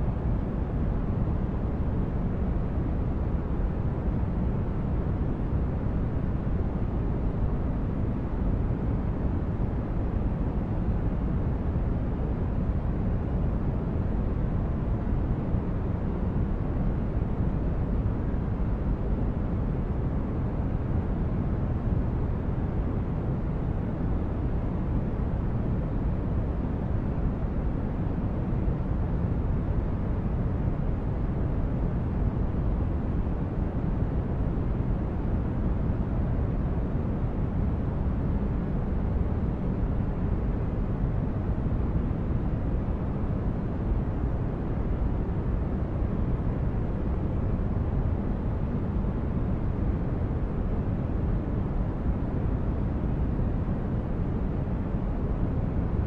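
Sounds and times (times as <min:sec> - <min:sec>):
steady white noise: 0:00.0 - 0:56.0.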